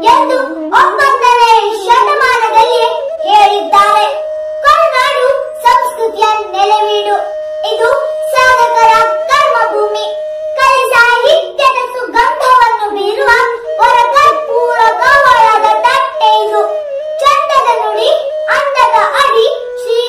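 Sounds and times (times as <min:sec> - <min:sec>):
steady held tone: 0:00.0 - 0:20.0.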